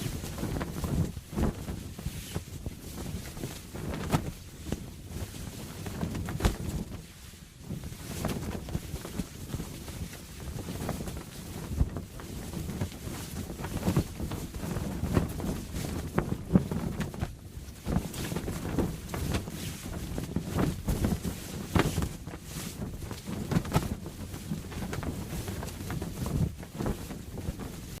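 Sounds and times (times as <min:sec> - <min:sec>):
sail flapping: 0:00.0 - 0:28.0.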